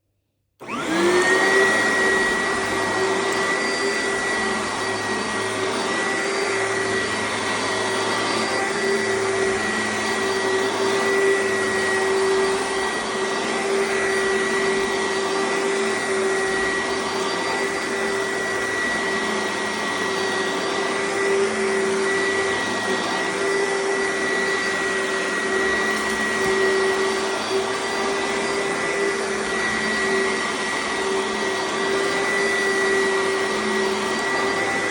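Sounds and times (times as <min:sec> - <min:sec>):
vacuum cleaner running: 0:00.6 - 0:34.9.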